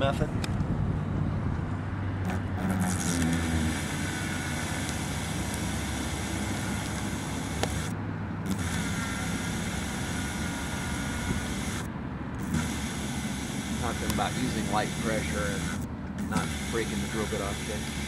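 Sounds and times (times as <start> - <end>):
hand drill boring into glass: 2.2 - 7.9, 8.5 - 18.0.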